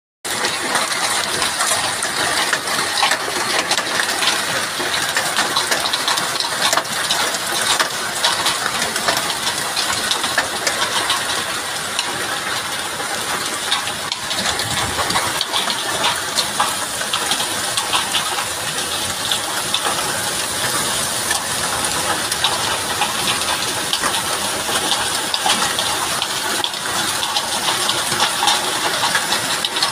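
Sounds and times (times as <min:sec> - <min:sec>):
hailstones clattering: 0:00.3 - 0:29.9.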